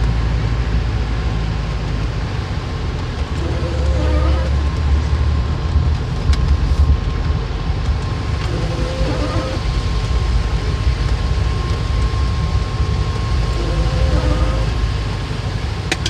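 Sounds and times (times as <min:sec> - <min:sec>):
faint steady whine: 0:00.0 - 0:16.0
vehicle engine and road rumble: 0:00.0 - 0:16.0.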